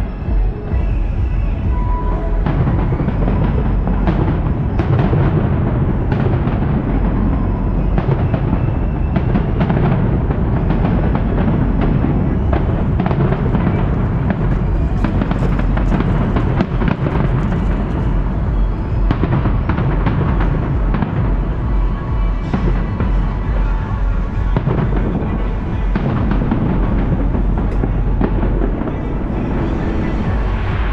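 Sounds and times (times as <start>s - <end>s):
fireworks bangs and crackles: 0.0s - 30.9s
loud music: 0.0s - 30.9s
low rumble: 0.0s - 30.9s.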